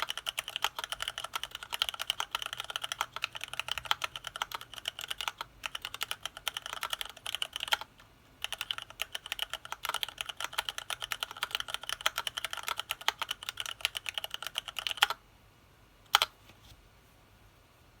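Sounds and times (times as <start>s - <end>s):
fast typing on mechanical keyboard: 0.0s - 15.2s.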